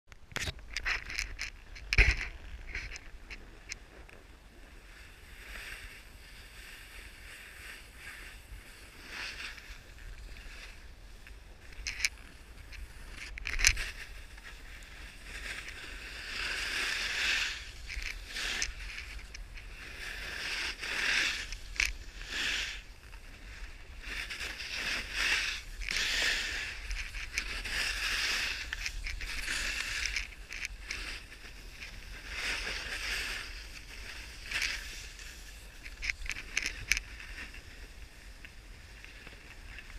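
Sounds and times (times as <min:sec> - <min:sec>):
snowboard scraping on snow: 0:03.5 - 0:39.9.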